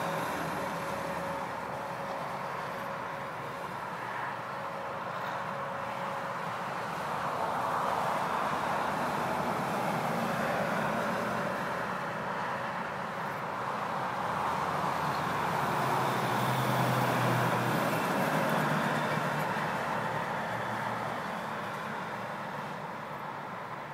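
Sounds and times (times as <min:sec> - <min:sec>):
road traffic passing: 0:00.0 - 0:23.9.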